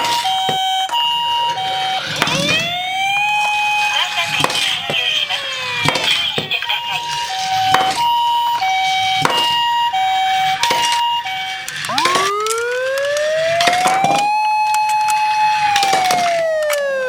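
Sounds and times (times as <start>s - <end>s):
electronic ambulance siren: 0.0s - 17.0s.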